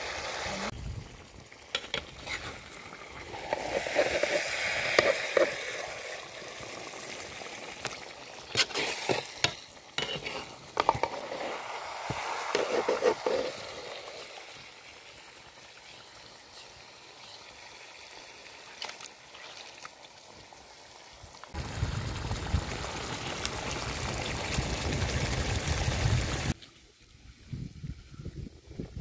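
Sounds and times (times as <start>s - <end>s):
meat sizzling in a pan: 1.4s - 26.6s.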